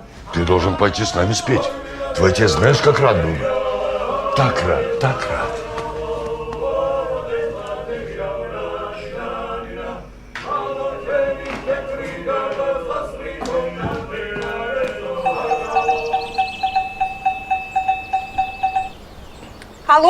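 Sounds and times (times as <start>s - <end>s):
group singing in chorus: 0.0s - 19.8s.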